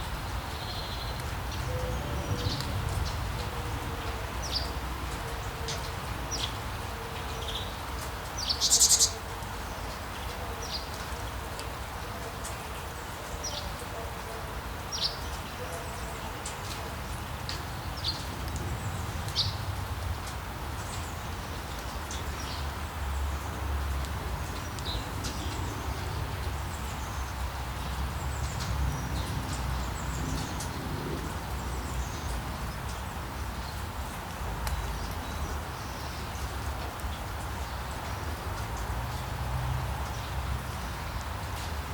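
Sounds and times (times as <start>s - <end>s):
rainfall hiss: 0.0s - 41.9s.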